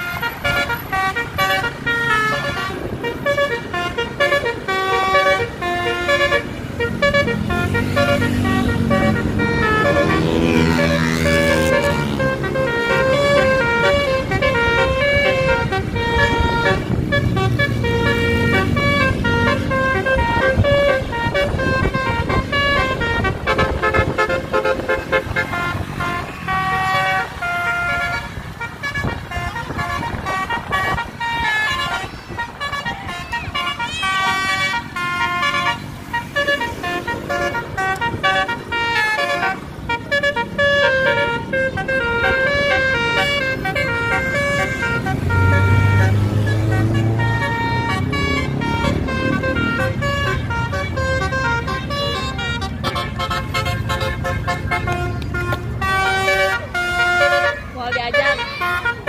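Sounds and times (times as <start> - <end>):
musical air horn playing a tune: 0.0 - 59.0
traffic noise: 0.0 - 59.0.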